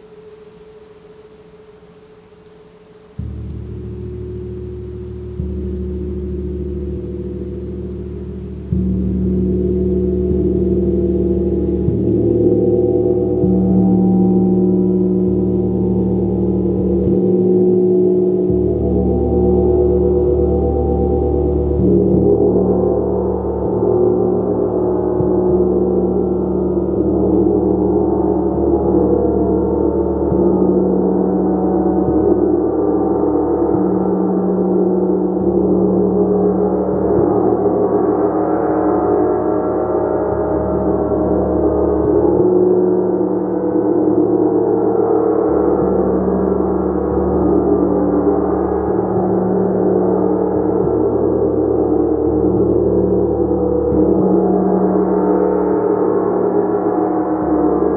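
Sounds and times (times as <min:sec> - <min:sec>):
gong sustained wash: 0:00.0 - 0:57.9.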